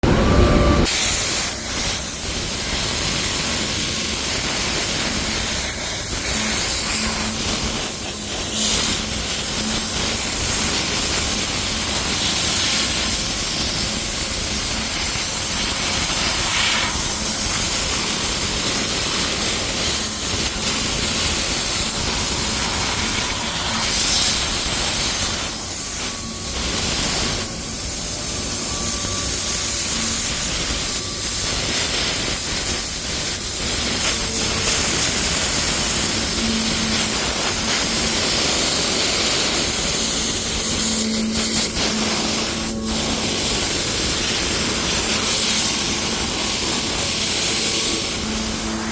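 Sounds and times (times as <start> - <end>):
paint spray gun hissing: 0.8 - 48.9.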